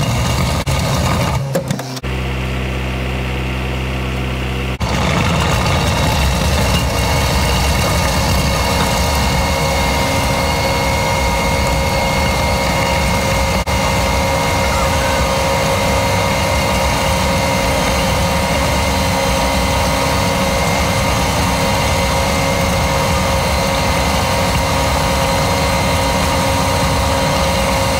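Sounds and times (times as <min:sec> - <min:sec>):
diesel engine rumbling with whine: 0:00.0 - 0:27.9.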